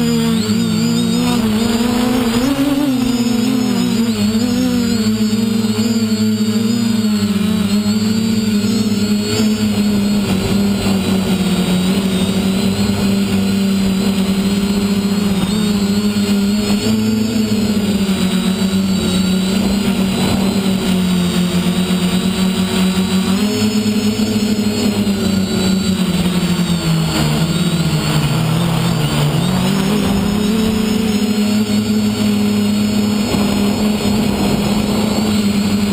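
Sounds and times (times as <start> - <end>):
drone motors buzzing: 0.0 - 35.9.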